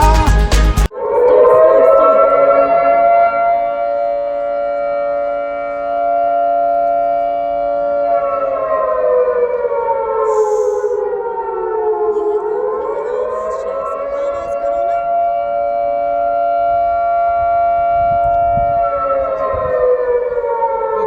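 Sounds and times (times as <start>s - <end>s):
air-raid siren wailing: 0.0s - 21.0s.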